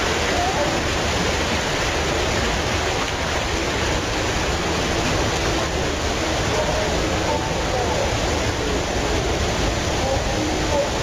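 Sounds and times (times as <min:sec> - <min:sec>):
torrential rain pouring: 0:00.0 - 0:11.0.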